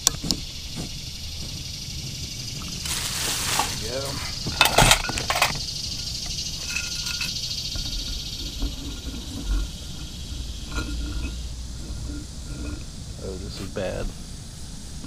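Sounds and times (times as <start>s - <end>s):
camp stove burner hiss: 0.0s - 15.0s.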